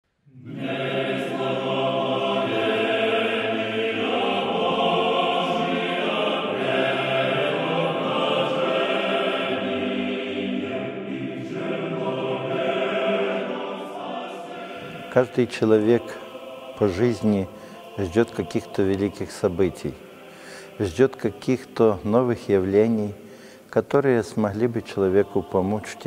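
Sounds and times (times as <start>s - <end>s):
church choir singing a chant: 0.2s - 26.0s.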